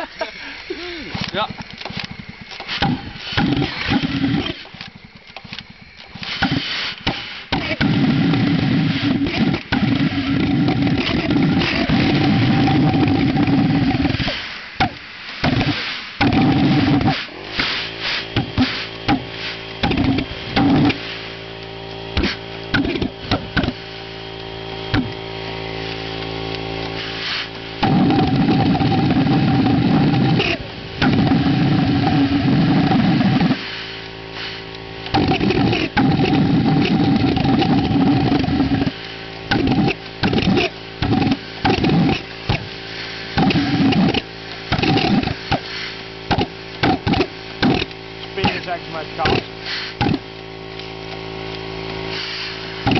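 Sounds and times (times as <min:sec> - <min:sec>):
pulsejet popping and running: 0:00.0 - 0:52.9
steady mechanical hum: 0:00.0 - 0:52.9.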